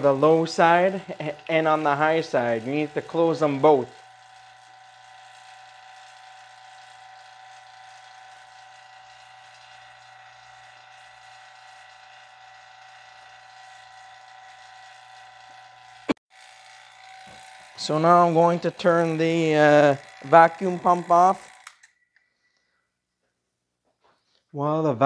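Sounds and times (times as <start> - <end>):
vacuum pump humming: 0.0 - 22.0.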